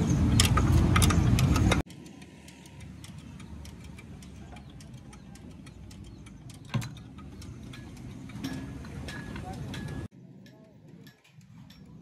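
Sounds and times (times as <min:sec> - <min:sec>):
light metallic clicks and ticks: 0:00.0 - 0:12.0.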